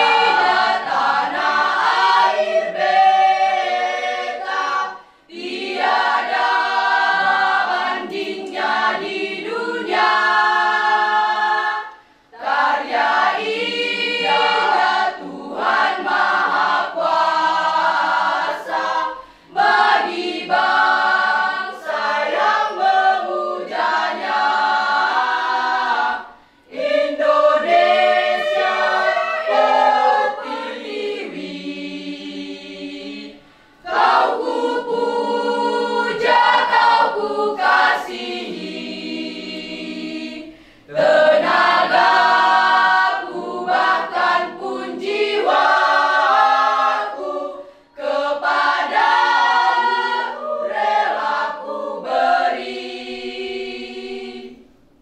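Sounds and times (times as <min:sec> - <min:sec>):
choir singing unaccompanied: 0:00.0 - 0:55.0.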